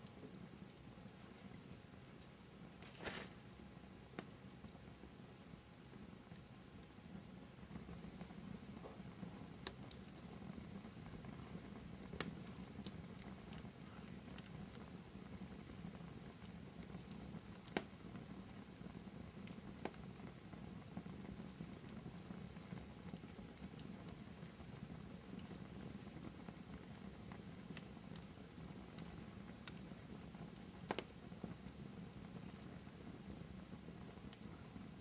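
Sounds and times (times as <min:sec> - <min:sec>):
faint steady hiss: 0:00.0 - 0:35.0
wood fire crackling: 0:00.0 - 0:35.0
fire pops: 0:02.2 - 0:03.5, 0:07.7 - 0:35.0.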